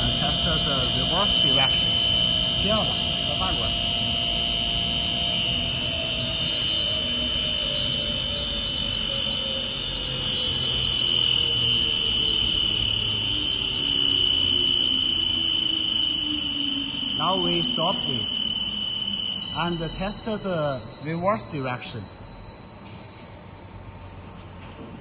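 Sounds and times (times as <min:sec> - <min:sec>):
mixer motor hum winding down: 0:00.0 - 0:22.7
high-pitched whine: 0:00.0 - 0:25.0.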